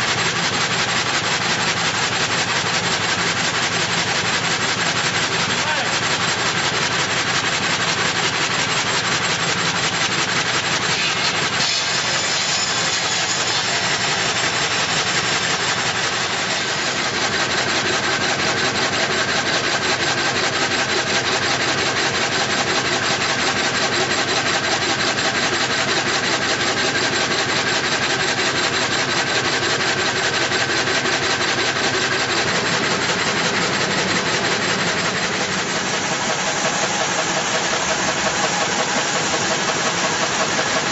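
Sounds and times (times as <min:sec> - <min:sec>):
gang saw sawing wood: 0:00.0 - 0:40.9.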